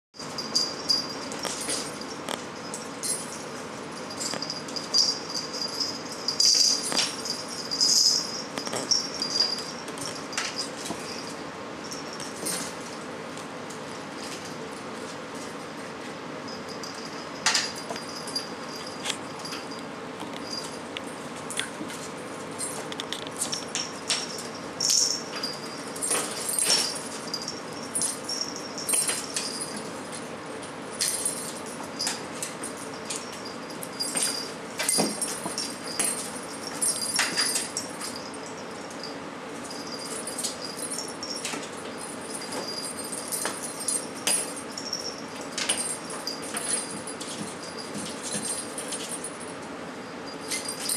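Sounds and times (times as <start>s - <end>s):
metallic toy jingling and tapping: 0.2s - 12.9s, 16.5s - 49.6s, 50.3s - 50.9s.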